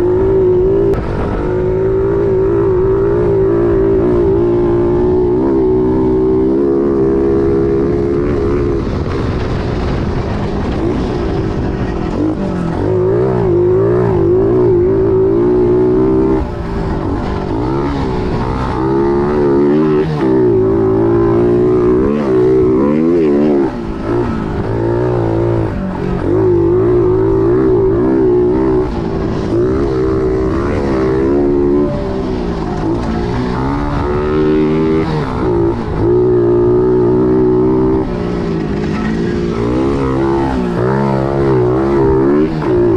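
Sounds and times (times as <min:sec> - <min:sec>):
pit bike engine revving: 0:00.0 - 0:42.9.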